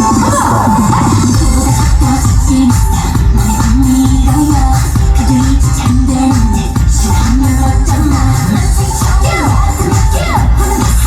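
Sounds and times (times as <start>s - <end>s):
loud live pop music: 0.0s - 11.0s.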